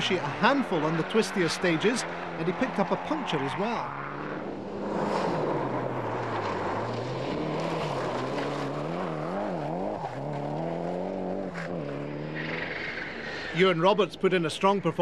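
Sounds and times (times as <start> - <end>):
rally car engine revving: 0.0 - 13.4.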